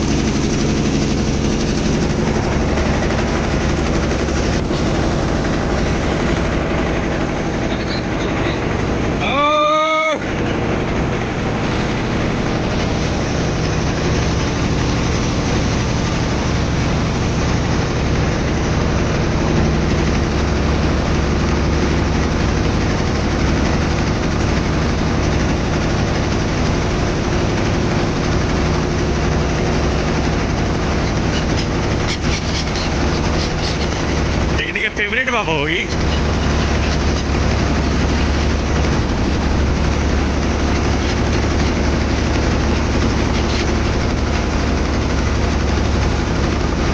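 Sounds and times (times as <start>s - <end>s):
motorboat engine humming: 0.0s - 46.9s.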